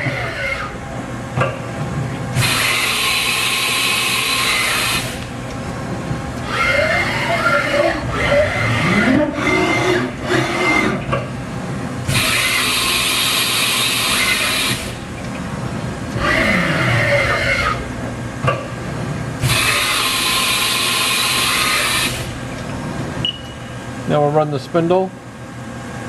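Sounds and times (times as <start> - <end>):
machine motor whine: 0.0 - 1.3, 2.1 - 18.3, 19.3 - 22.9
steady machine hum: 0.0 - 26.0.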